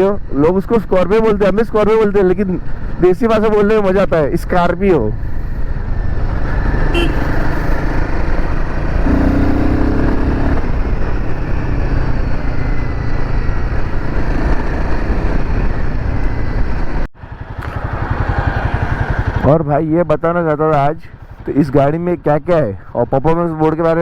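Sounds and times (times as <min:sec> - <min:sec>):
motorcycle engine running: 0:00.0 - 0:22.0
wind and road noise: 0:00.0 - 0:24.0.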